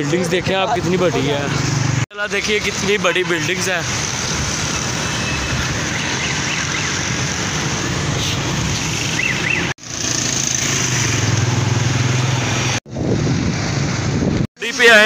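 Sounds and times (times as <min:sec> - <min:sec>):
busy street traffic: 0:00.0 - 0:15.0.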